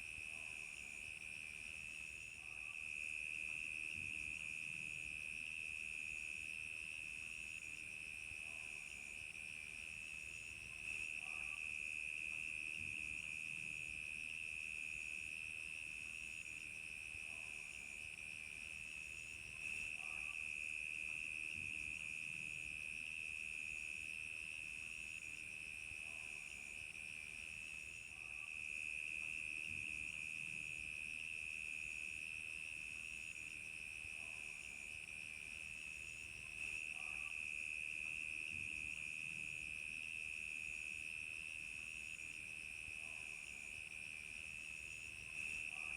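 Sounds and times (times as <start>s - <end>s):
high pulsing cricket chirp: 0.2s - 45.9s.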